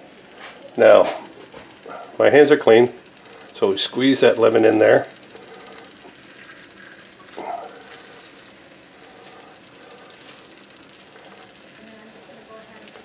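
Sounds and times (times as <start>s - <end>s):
pan sizzling faintly: 0.0s - 13.0s.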